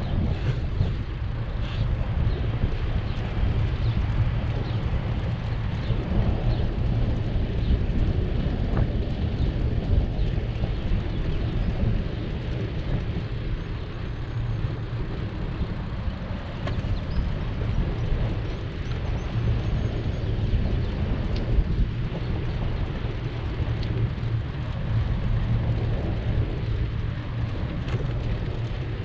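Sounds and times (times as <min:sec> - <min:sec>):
wind rumbling on microphone: 0:00.0 - 0:29.0.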